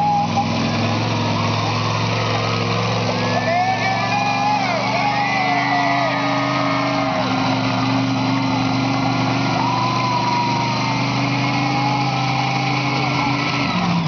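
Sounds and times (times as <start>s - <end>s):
monster truck engine droning: 0.0s - 14.0s.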